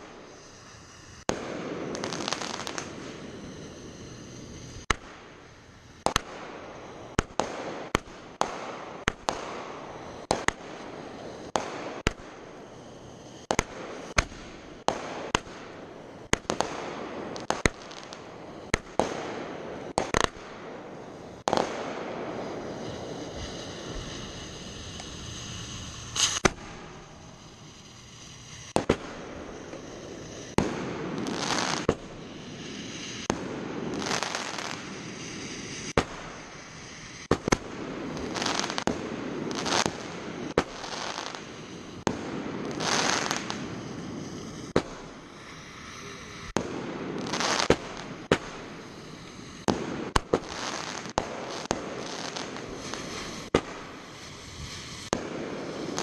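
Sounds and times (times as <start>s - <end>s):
fireworks bangs: 0.0s - 56.0s
fireworks hissing: 0.0s - 56.0s.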